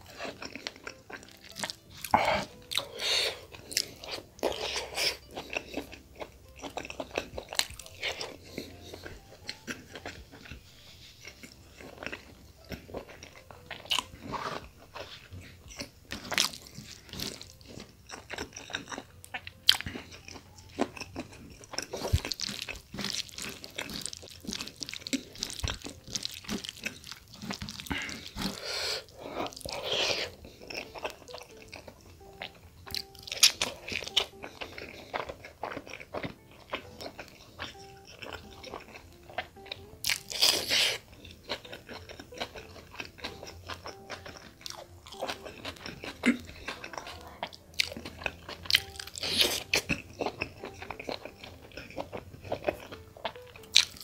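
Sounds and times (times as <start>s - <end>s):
close-up chewing: 0.0s - 54.0s.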